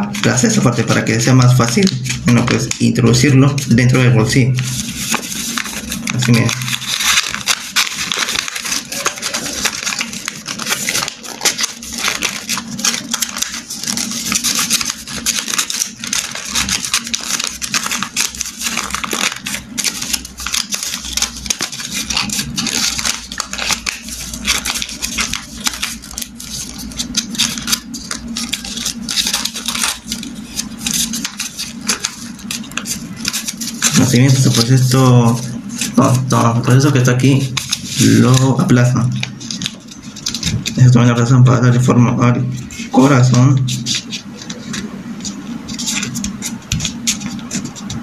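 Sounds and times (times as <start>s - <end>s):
paper rustling and crinkling: 0.0s - 48.0s.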